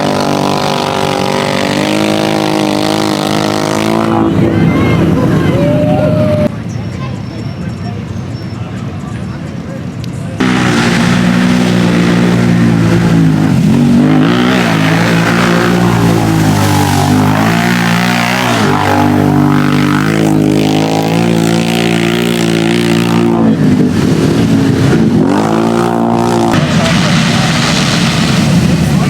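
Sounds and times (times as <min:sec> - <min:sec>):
vehicle engine at full throttle: 0:00.0 - 0:06.5, 0:09.8 - 0:29.0.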